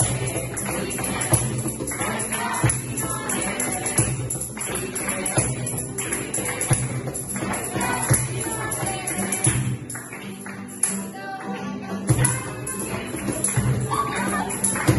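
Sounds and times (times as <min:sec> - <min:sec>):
cajon beats: 0:00.0 - 0:10.2, 0:12.0 - 0:14.9
acoustic guitar: 0:00.0 - 0:14.9.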